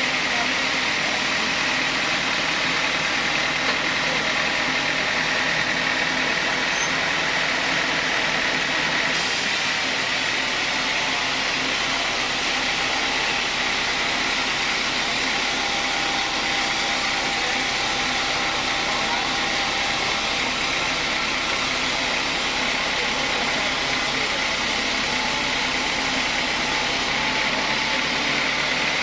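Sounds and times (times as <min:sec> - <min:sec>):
sawmill machinery drone: 0:00.0 - 0:29.0.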